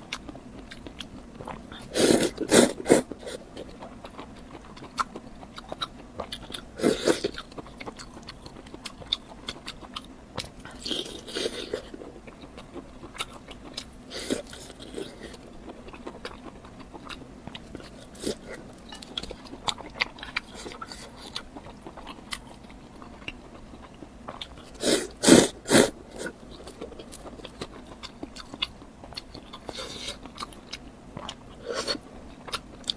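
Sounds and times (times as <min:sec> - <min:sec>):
food crunching: 0:00.0 - 0:32.9
person chewing food: 0:00.0 - 0:32.9.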